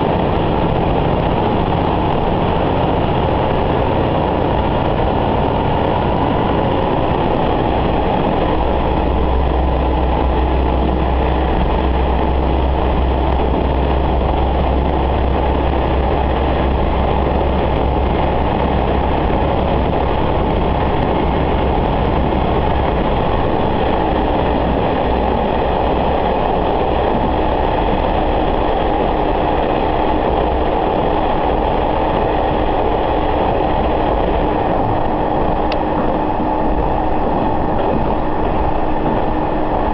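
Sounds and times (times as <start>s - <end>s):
deep hum: 0.0s - 39.9s
railcar engine drone: 0.0s - 39.9s
wheel and rail noise: 0.0s - 39.9s.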